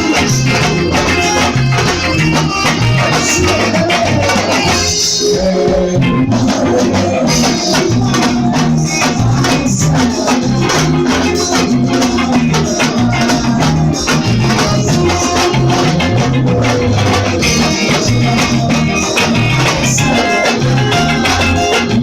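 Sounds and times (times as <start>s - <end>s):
band playing instrumental music: 0.0s - 22.0s
bass line: 0.0s - 22.0s
percussion rhythm: 0.0s - 22.0s.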